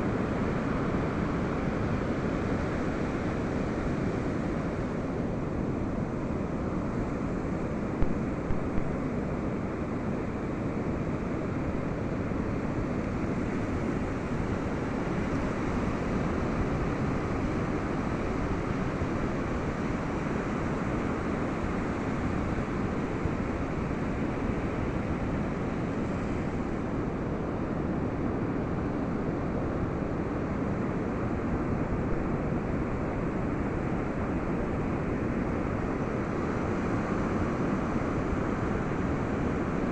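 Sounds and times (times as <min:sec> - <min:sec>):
ocean surf on beach: 0:06.6 - 0:39.9.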